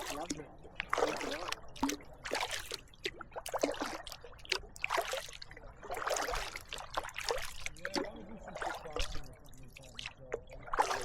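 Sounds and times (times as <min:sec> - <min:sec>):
kayak paddle strokes splashing: 0:00.0 - 0:11.0
water trickling off paddle: 0:00.0 - 0:11.0.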